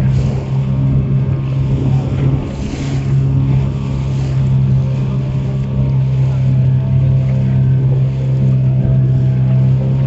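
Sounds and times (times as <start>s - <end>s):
boat motor humming: 0.0s - 10.0s
wind on microphone: 0.0s - 10.0s.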